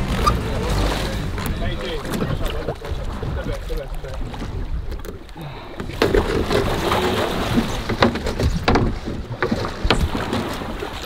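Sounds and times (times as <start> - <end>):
knocks and thumps on boat: 0.0 - 11.0
water splashing: 0.0 - 11.0.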